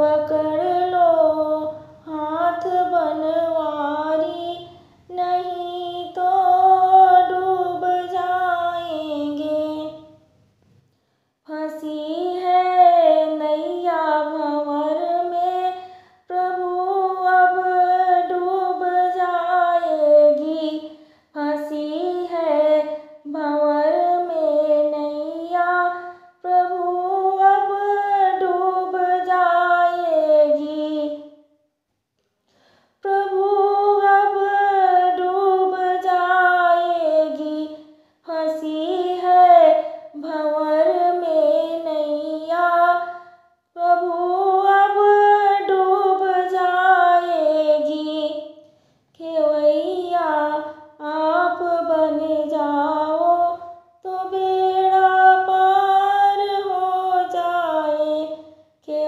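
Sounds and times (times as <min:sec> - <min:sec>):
woman singing devotional song: 0:00.0 - 0:10.3, 0:11.0 - 0:31.5, 0:32.8 - 0:59.0.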